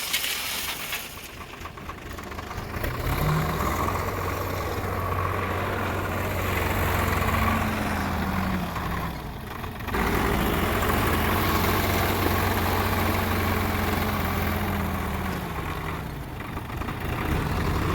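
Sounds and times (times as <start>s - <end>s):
heavy diesel engine running: 0.7s - 17.9s.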